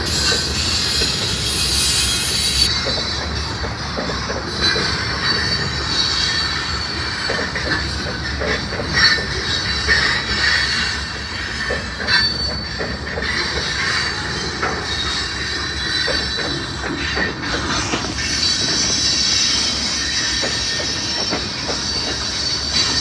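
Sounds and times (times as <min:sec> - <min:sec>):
train rumble: 0:00.0 - 0:23.0
train wheels squealing: 0:00.0 - 0:23.0.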